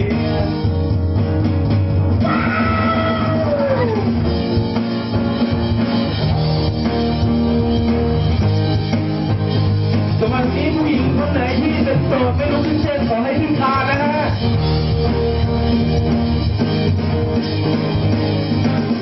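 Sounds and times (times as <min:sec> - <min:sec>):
keyboard: 0:00.0 - 0:19.0.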